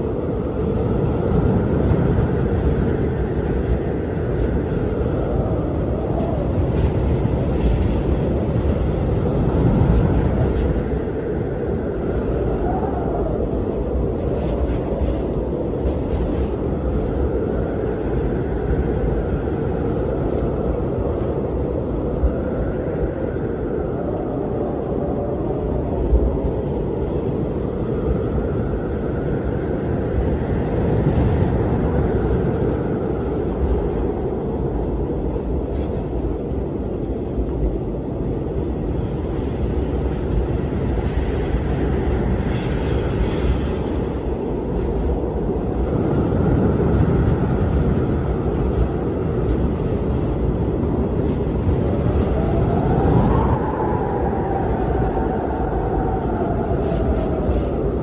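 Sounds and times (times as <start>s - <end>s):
howling wind: 0.0s - 58.0s.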